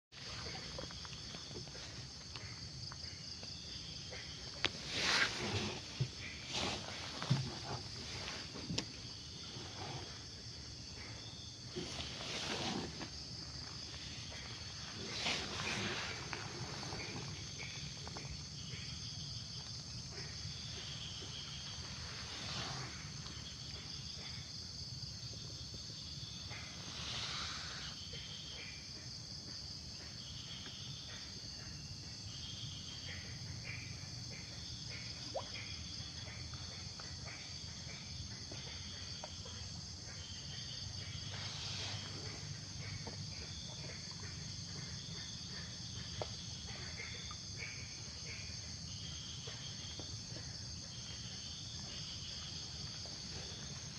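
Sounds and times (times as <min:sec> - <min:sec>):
insect chorus: 0:00.1 - 0:53.9.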